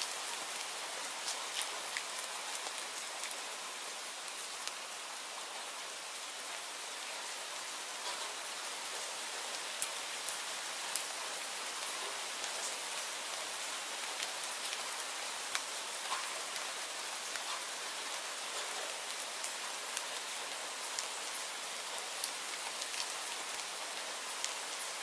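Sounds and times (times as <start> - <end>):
raindrops ticking on a surface: 0.0 - 25.0
steady rainfall hiss: 0.0 - 25.0.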